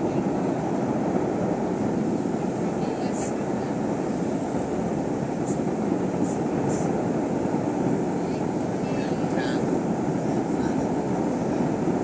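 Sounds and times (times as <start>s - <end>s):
murmur of indistinct voices: 0.0s - 12.0s.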